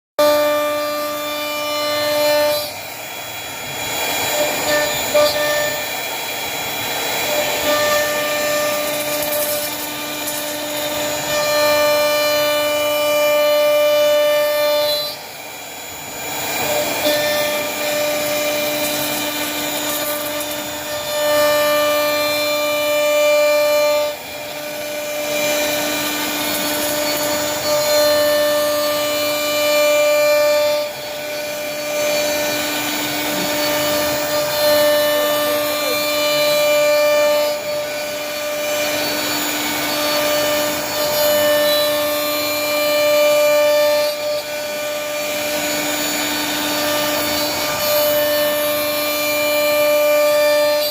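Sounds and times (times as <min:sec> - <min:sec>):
router spindle whining: 0:00.2 - 0:50.9.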